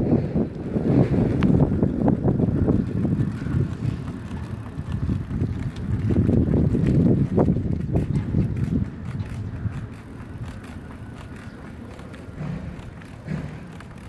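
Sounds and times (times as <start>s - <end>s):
bicycle clicks and rattles: 0.0s - 14.0s
bicycle tyre rumble on road: 0.0s - 14.0s
wind buffeting microphone: 0.0s - 14.0s.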